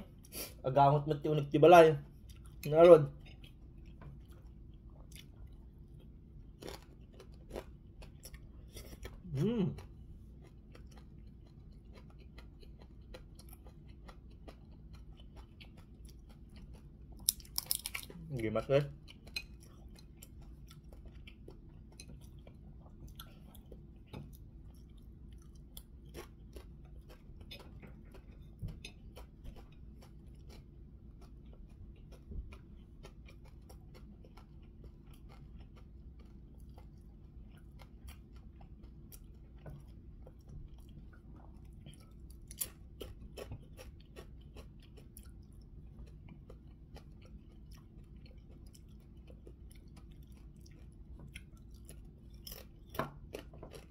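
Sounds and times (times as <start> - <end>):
person chewing food: 0.0 - 53.9
steady low hum: 0.0 - 53.9.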